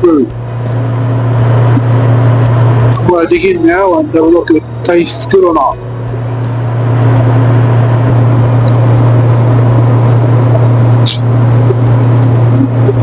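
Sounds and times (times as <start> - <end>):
jet cabin low hum: 0.0 - 13.0.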